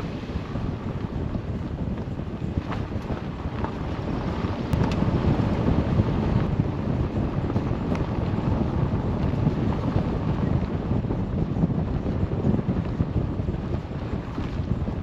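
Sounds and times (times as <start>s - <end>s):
car tyres and engine rumble: 0.0s - 15.0s
wind buffeting microphone: 0.0s - 15.0s.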